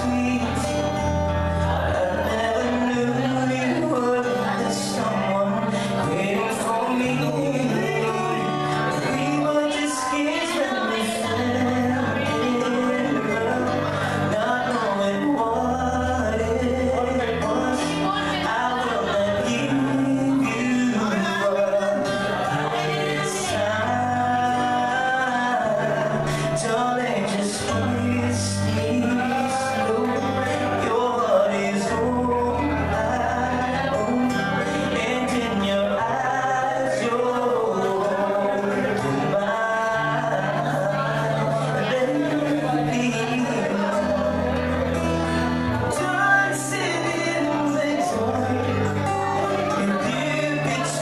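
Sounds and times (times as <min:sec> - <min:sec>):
guitar accompaniment: 0:00.0 - 0:51.0
man singing into microphone: 0:00.0 - 0:51.0.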